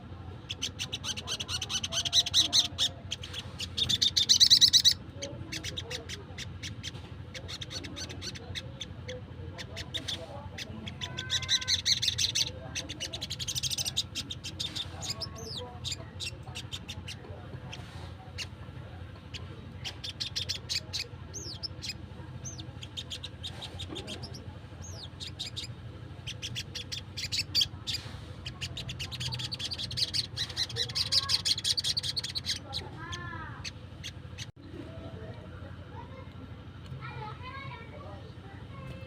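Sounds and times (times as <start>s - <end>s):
steady low hum: 0.0s - 39.0s
bird calling in sharp chips: 0.5s - 18.6s, 19.2s - 34.5s.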